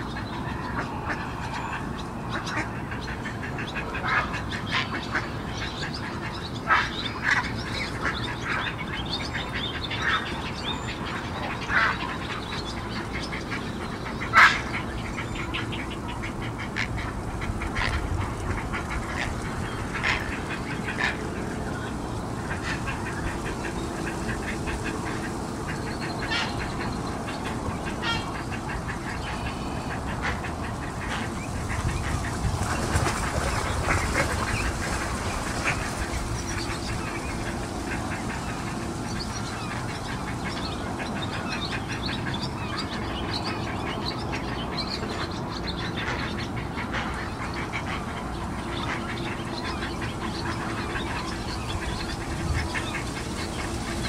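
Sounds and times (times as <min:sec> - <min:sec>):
ducks quacking: 0:00.0 - 0:54.0.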